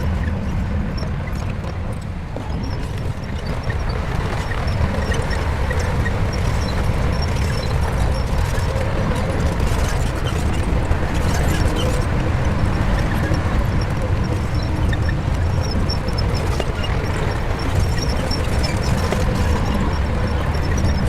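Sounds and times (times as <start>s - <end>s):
bulldozer diesel engine rumbling: 0.0s - 21.0s.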